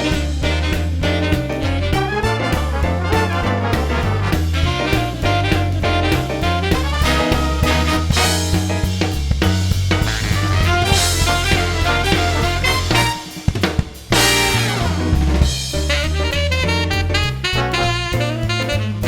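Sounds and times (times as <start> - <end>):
drum hits: 0.0 - 16.2
swing jazz music: 0.0 - 19.0.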